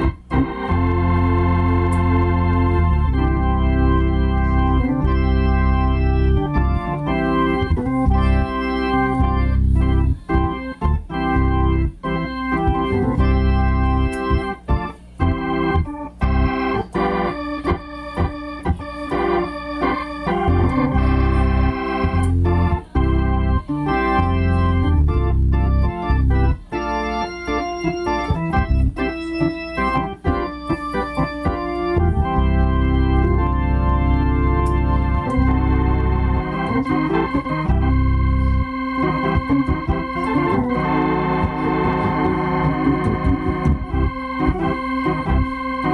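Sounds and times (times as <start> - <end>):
electric organ chords: 0.0 - 45.9
low organ bass notes: 0.0 - 45.9.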